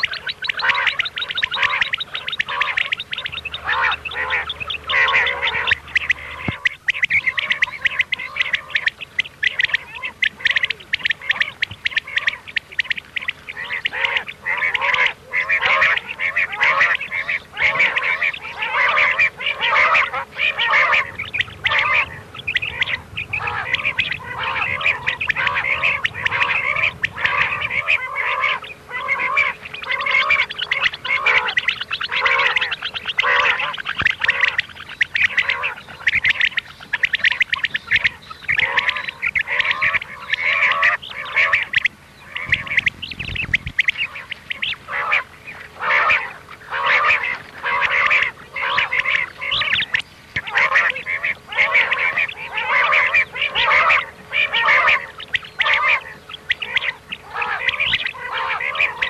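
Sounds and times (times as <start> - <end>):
quail calling: 0.0 - 59.0.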